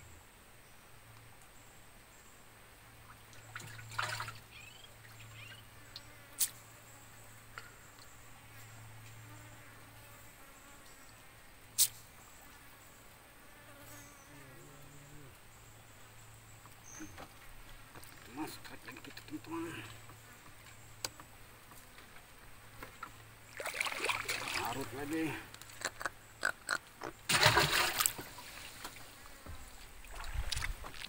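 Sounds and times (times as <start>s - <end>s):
low insect buzz: 3.4s - 30.8s.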